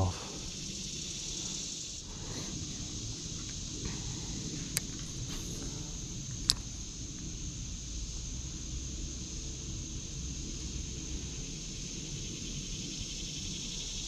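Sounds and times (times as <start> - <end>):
low rumble: 0.0 - 13.8
high-pitched insect chorus: 0.0 - 14.0.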